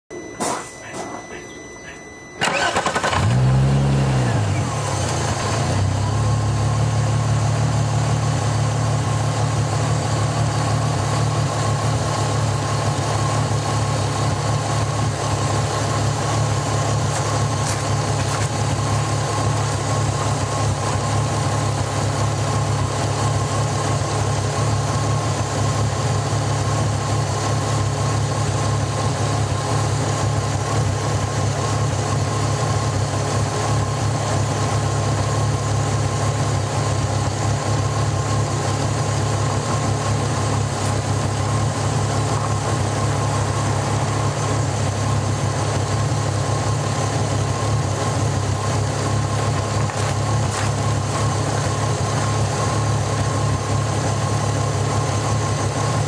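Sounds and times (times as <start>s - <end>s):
car engine idling: 0.1s - 56.0s.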